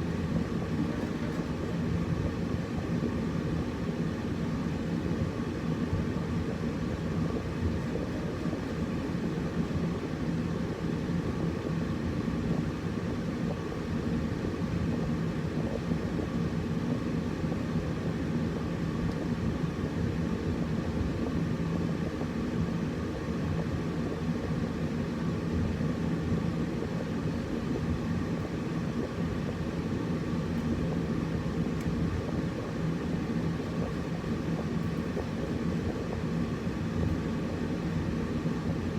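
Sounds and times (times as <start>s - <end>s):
air conditioner running: 0.0s - 38.9s.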